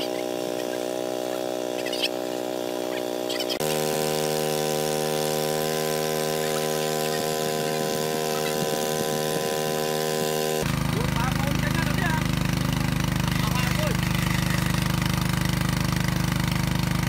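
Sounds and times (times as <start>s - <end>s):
water pump engine humming: 0.0s - 17.0s.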